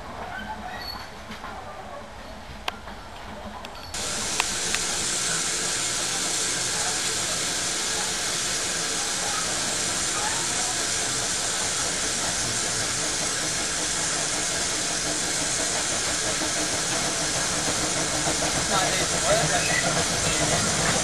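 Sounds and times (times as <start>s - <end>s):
steam locomotive hissing: 3.9s - 21.0s.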